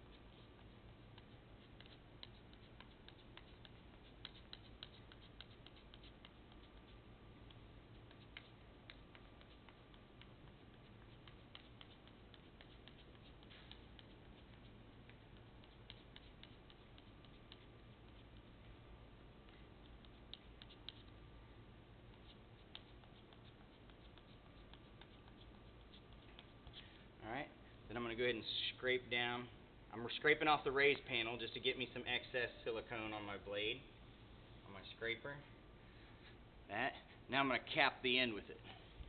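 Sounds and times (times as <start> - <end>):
low room hum: 0.0 - 39.0.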